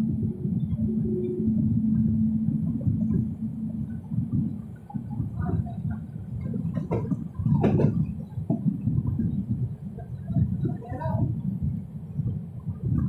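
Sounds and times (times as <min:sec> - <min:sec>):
train rumbling at speed: 0:00.0 - 0:13.0
wind buffeting microphone: 0:00.0 - 0:13.0.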